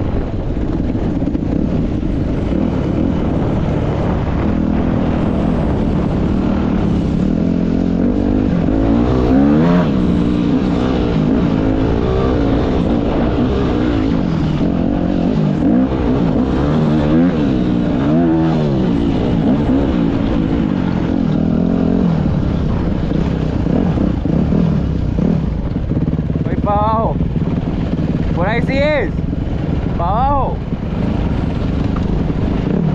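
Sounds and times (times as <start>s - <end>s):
dirt bike engine revving: 0.8s - 32.9s.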